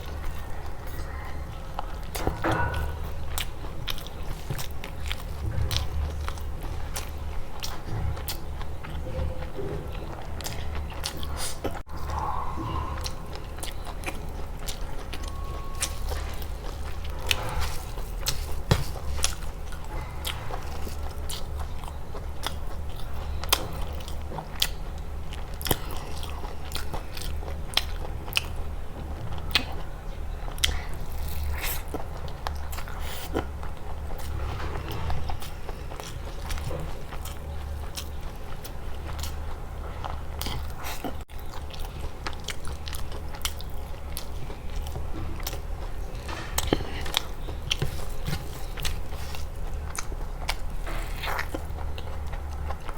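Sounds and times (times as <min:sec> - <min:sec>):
chewing with crunchy clicks: 0:00.0 - 0:52.9
steady low hum: 0:00.0 - 0:52.9.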